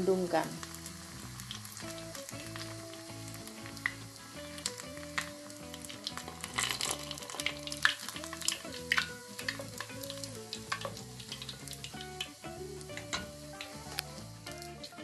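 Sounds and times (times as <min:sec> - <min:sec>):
food deep-frying in oil: 0:00.0 - 0:15.0
oil crackling and popping: 0:00.0 - 0:15.0.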